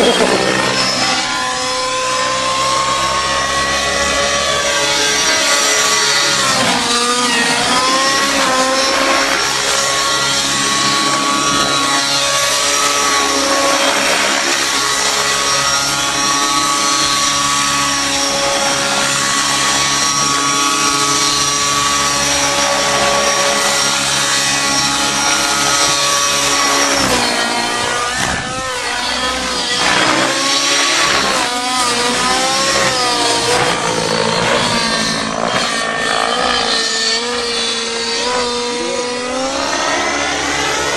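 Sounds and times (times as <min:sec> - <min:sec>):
model helicopter engine whine: 0:00.0 - 0:40.9
rotor blades spinning: 0:00.0 - 0:40.9.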